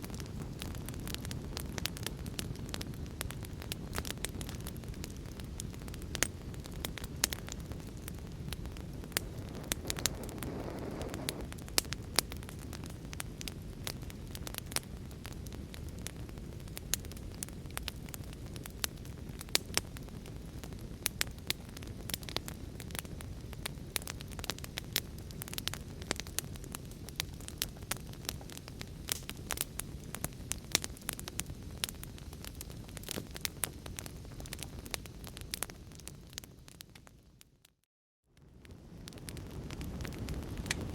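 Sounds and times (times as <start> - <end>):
wood fire crackling: 0.0 - 37.5, 38.4 - 40.9.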